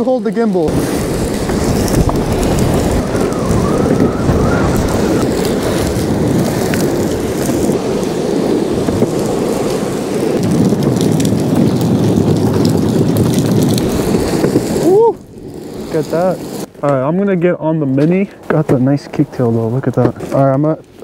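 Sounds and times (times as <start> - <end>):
skateboard wheels rolling on road: 0.0 - 21.0
wind buffeting microphone: 0.6 - 21.0.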